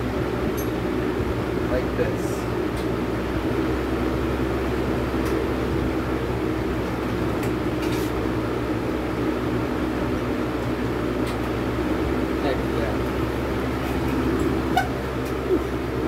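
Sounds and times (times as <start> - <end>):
equipment hum and air rush: 0.0 - 16.0.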